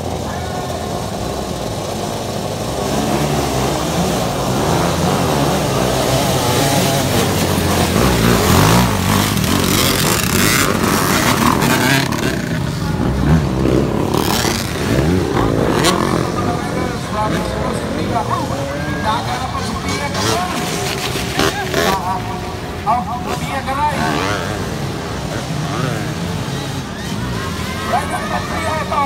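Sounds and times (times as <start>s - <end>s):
dirt bikes revving and accelerating: 0.0s - 29.0s.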